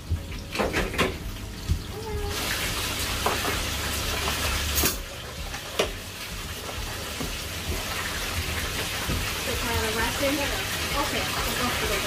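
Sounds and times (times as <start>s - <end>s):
oil sizzling in deep-fryer: 0.0s - 12.0s.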